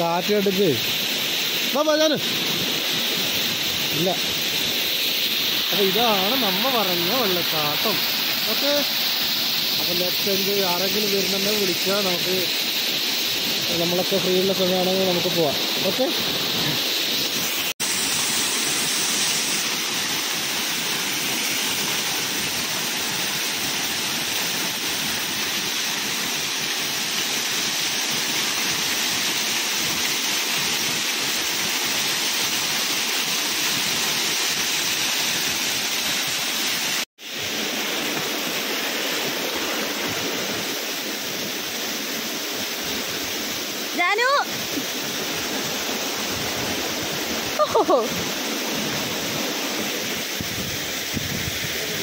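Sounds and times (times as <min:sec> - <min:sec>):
small waterfall splashing over rock: 0:00.0 - 0:52.0.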